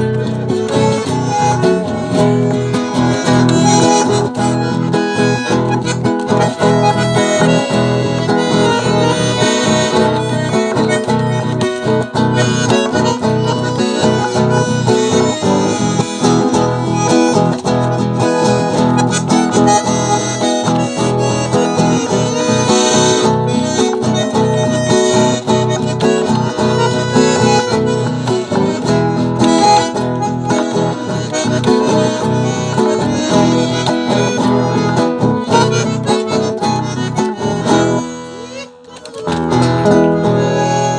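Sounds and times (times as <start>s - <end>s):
acoustic guitar strumming: 0.0s - 40.9s
bagpipe playing melody: 0.0s - 40.9s.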